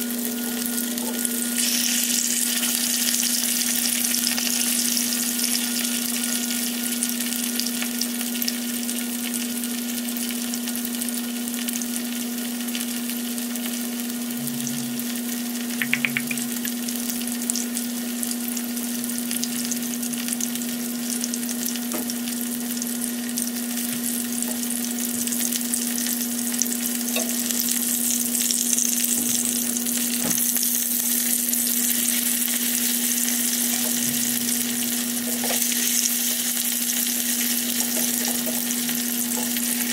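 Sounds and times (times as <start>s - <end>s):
sausages sizzling in oil: 0.0s - 39.9s.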